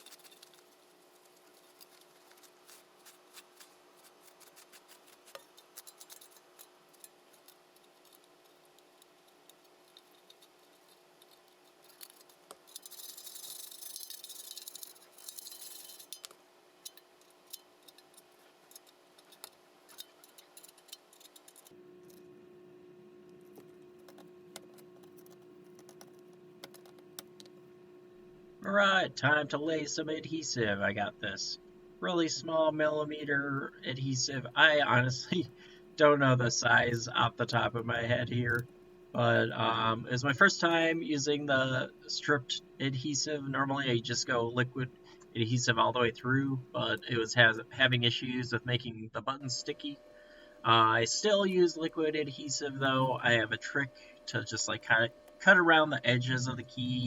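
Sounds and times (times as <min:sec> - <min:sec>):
scratchy hiss: 0:00.0 - 0:22.2, 0:28.6 - 0:57.0
steady low hum: 0:00.0 - 0:57.0.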